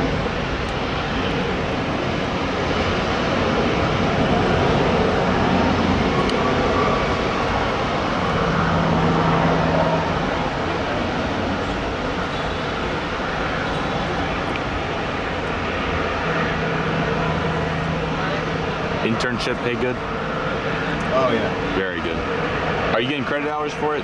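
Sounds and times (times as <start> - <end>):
low steady hum: 0.0 - 23.9
distant jet engines rushing: 0.0 - 24.0.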